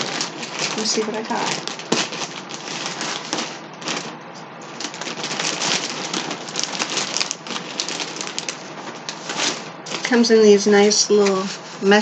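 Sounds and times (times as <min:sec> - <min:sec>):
packaging crinkling: 0:00.0 - 0:11.6.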